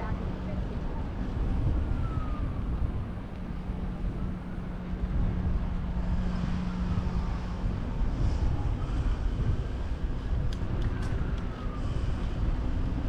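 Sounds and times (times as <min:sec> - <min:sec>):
street and wind rumble: 0:00.0 - 0:13.0.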